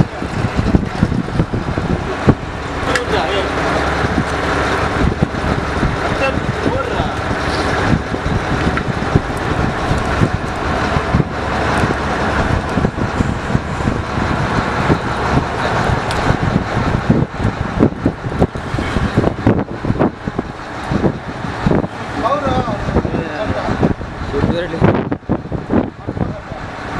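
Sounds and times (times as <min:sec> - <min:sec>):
boat engine running: 0:00.0 - 0:26.9
wind buffeting microphone: 0:00.0 - 0:26.9.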